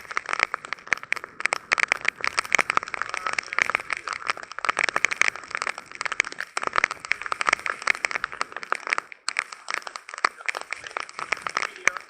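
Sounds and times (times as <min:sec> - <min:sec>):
raindrops ticking on hard surface: 0:00.0 - 0:12.0
heavy rain shower: 0:01.5 - 0:12.0.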